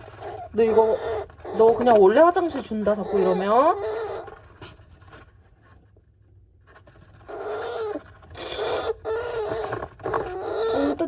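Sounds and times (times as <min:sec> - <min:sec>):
hamster gnawing and scraping: 0:00.0 - 0:11.0.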